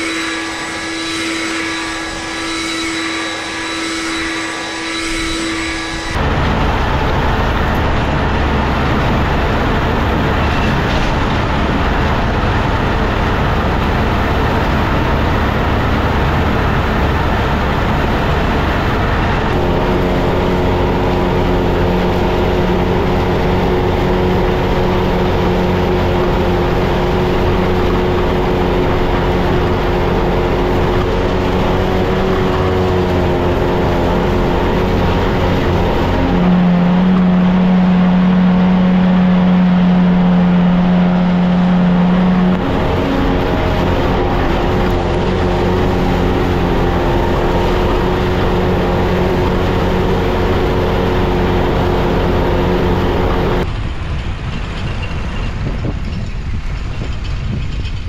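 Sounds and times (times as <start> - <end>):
loud low hum: 0.0 - 55.0
tractor engine running: 5.1 - 58.0.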